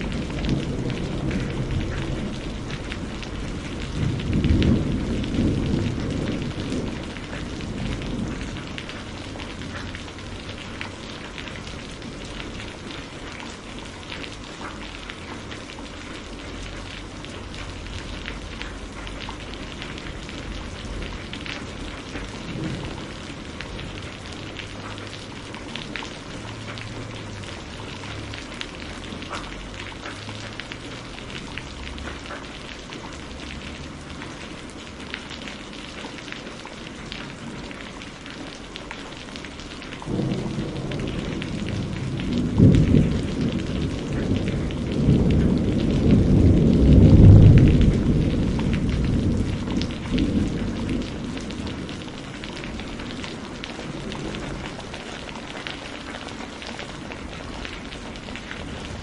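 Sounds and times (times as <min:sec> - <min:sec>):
thunder rumbling: 0:00.0 - 0:35.4, 0:39.4 - 0:59.0
rain falling: 0:00.0 - 0:59.0.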